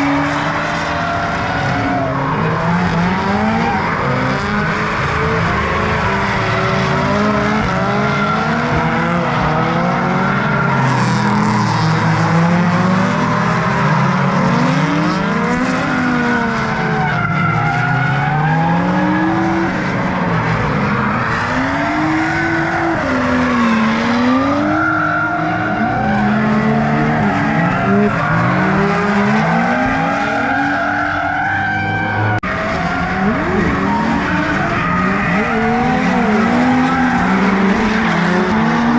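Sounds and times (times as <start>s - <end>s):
car engines revving: 0.0s - 38.9s
tyre squeal and skidding: 0.0s - 38.9s.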